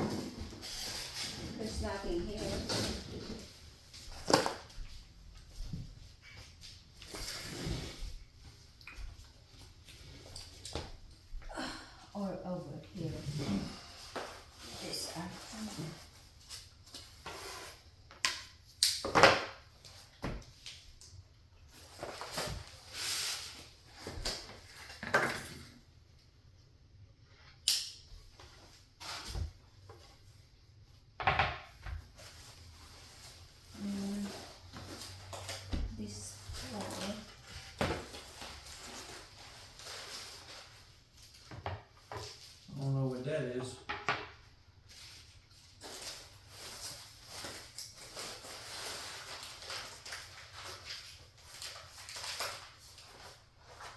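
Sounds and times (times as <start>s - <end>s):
packing material and cardboard rustling: 0.0s - 25.8s, 32.0s - 43.6s, 44.5s - 53.9s.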